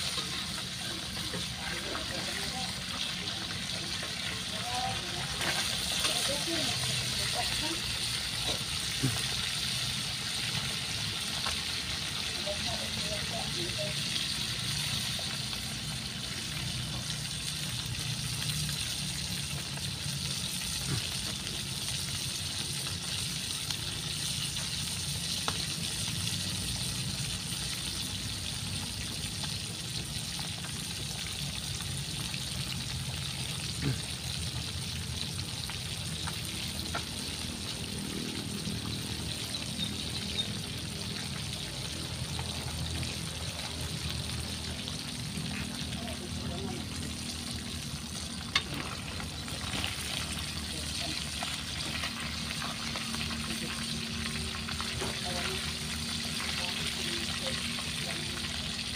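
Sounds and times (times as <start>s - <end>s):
fish frying in hot oil: 0.0s - 58.9s.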